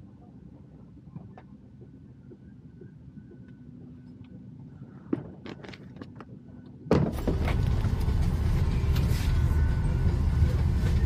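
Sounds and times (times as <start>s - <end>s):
airplane cabin rumble with hiss: 0.0s - 11.0s.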